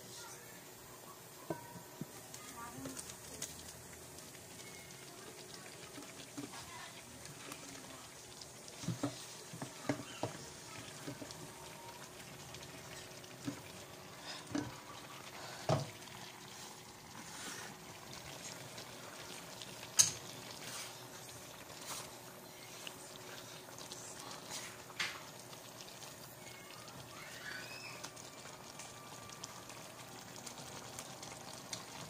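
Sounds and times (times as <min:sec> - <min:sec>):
meat sizzling in a frying pan: 0:01.4 - 0:32.0.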